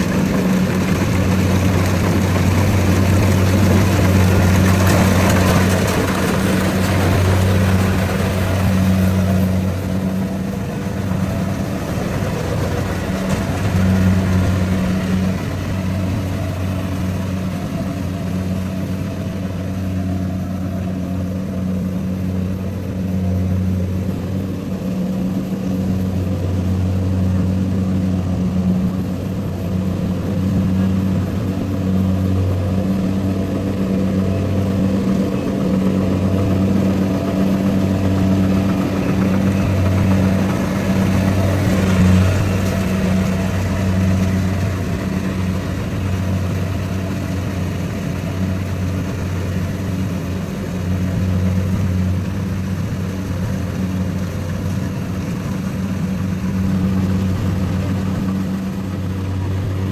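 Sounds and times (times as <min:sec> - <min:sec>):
harvester engine droning: 0:00.0 - 0:59.9.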